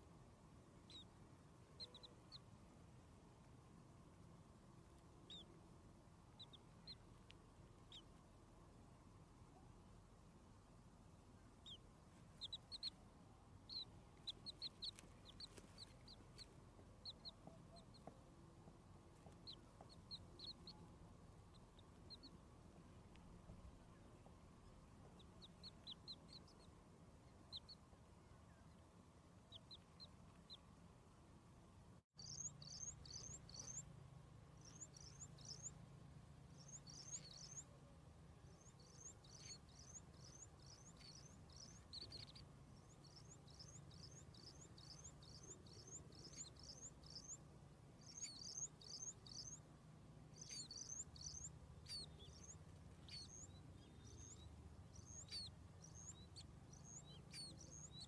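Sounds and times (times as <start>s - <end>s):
faint steady low hum: 0.0s - 58.0s
bird chicks peeping: 0.8s - 3.6s, 4.8s - 8.4s, 11.1s - 30.8s, 32.2s - 58.0s.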